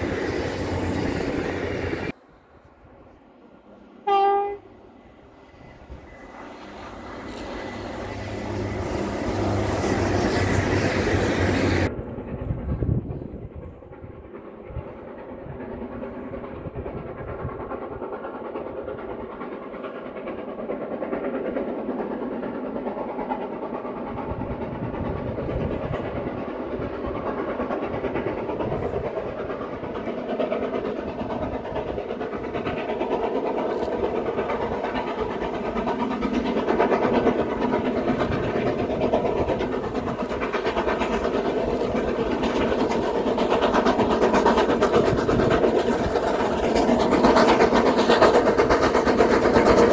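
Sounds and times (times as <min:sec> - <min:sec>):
steam locomotive working hard: 0:00.0 - 0:49.9.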